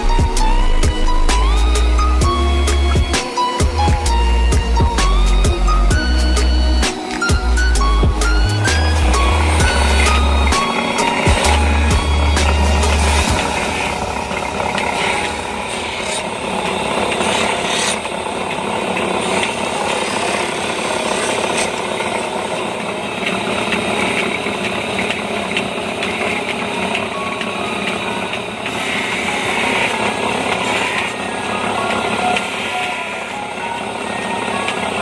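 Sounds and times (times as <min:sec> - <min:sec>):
grinding wheel grinding: 0:00.0 - 0:35.0.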